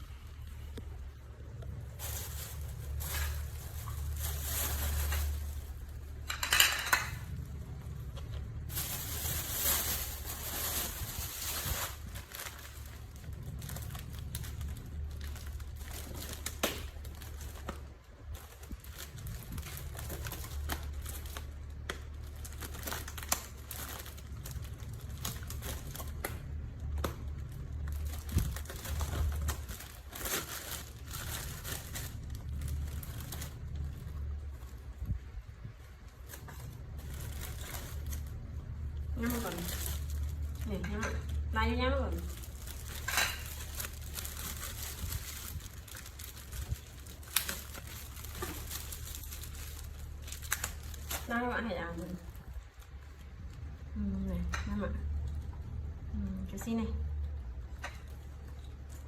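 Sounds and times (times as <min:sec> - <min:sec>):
crinkling and rustling: 0:00.0 - 0:59.0
steady low hum: 0:00.0 - 0:59.0.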